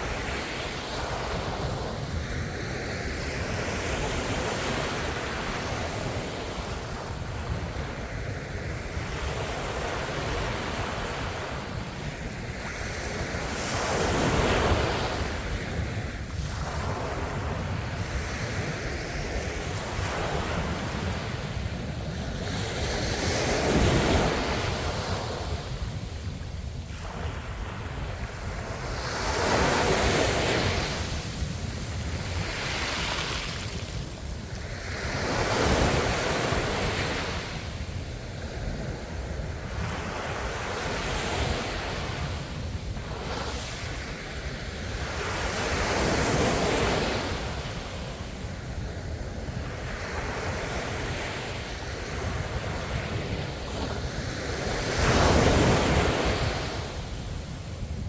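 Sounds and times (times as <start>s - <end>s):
ocean waves breaking on shore: 0.0s - 58.0s
wind noise on microphone: 0.0s - 58.0s.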